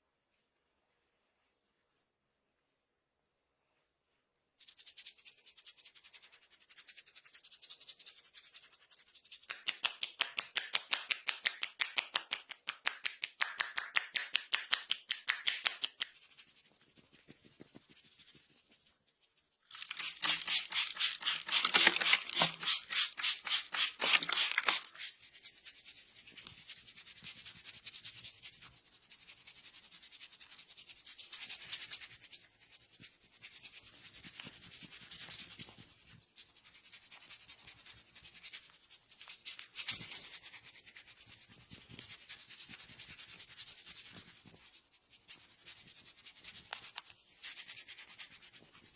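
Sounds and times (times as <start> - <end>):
hands rubbing hair: 4.6 - 48.9.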